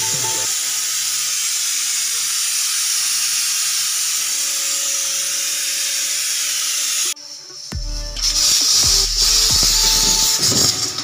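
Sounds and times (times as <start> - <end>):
pressure cooker steam hissing: 0.0 - 11.0.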